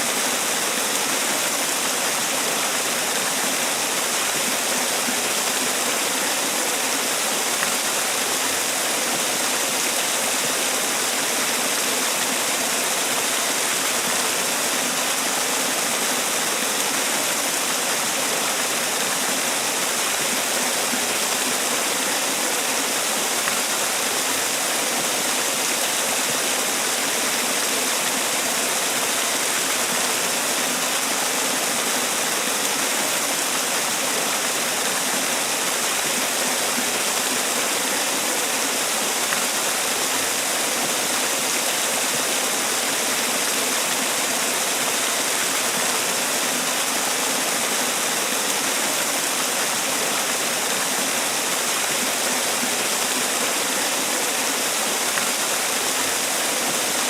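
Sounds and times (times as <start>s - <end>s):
waterfall pouring and splashing: 0.0s - 57.0s.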